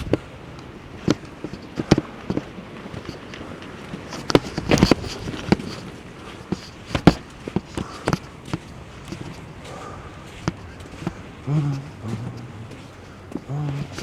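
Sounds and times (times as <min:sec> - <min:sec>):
boots stepping on wet ground: 0:00.0 - 0:14.0
steady background hiss: 0:00.0 - 0:14.0.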